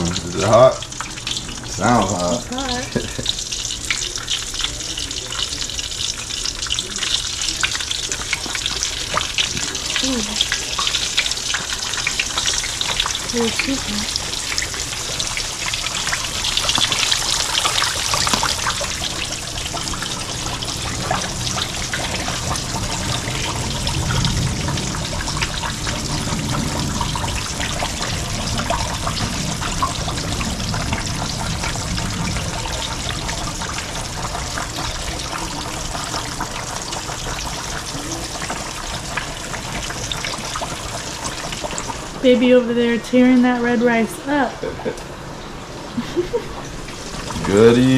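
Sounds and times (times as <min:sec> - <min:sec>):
fish frying in hot grease: 0:00.0 - 0:47.9.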